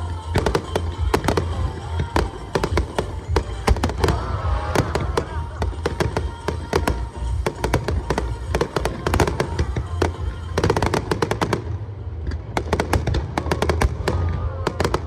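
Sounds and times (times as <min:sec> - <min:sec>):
fireworks cracking and banging: 0:00.0 - 0:15.0
steady low rumble: 0:00.0 - 0:15.0.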